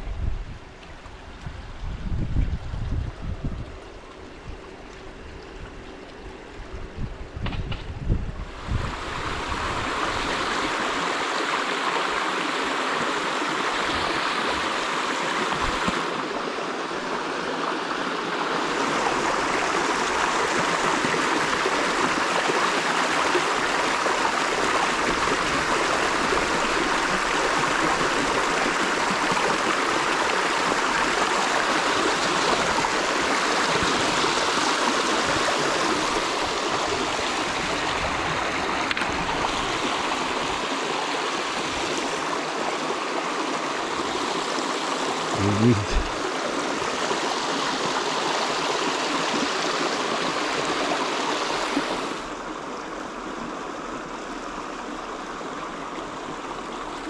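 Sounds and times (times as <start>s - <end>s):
creek water rushing over stones: 8.4s - 57.0s.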